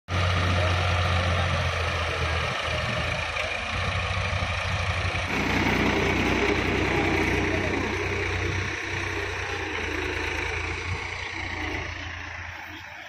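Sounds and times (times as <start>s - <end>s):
tractor diesel engine running: 0.1s - 13.0s.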